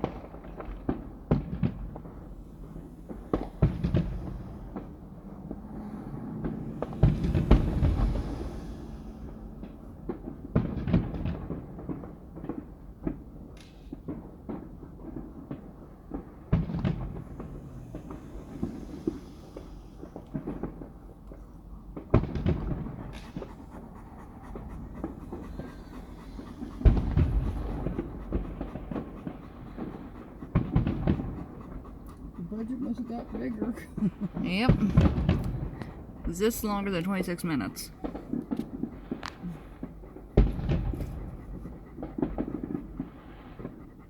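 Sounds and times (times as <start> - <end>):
fireworks booming: 0.0 - 43.8
dog panting: 0.0 - 44.0.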